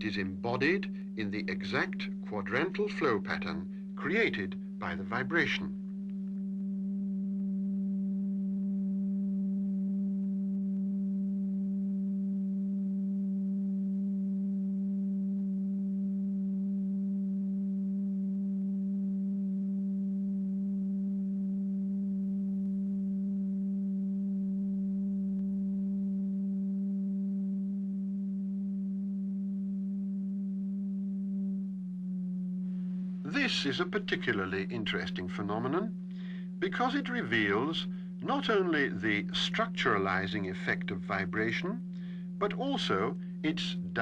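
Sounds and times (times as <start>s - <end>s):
steady low electronic tone: 0.0s - 44.0s.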